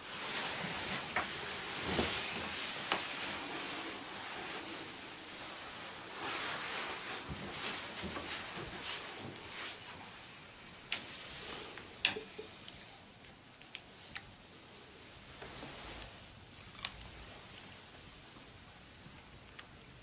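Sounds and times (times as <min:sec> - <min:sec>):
soft rustling: 0:00.0 - 0:14.3, 0:15.2 - 0:19.8.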